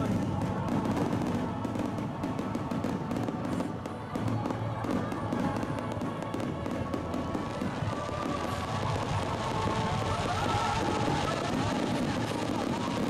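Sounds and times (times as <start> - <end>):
fireworks crackling and popping: 0.0 - 13.0
music playing: 0.0 - 13.0.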